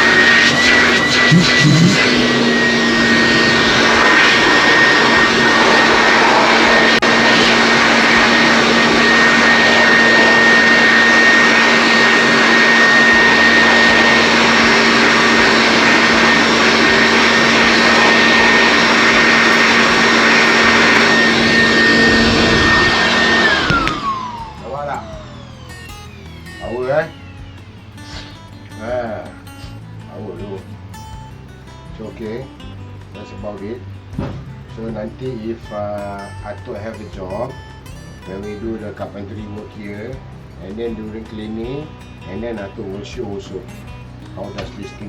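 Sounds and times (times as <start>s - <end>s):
air blower running with whine: 0.0s - 45.0s.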